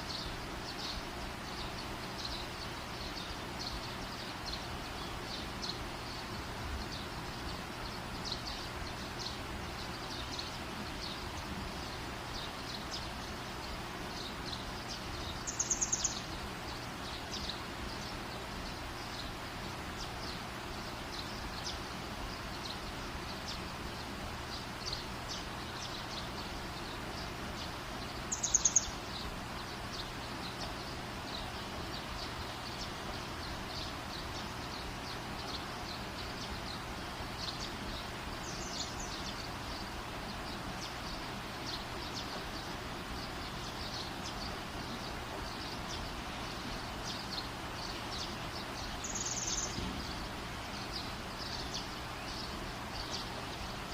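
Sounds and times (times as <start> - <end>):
small birds chirping: 0.0 - 53.9
steady background hiss: 0.0 - 53.9.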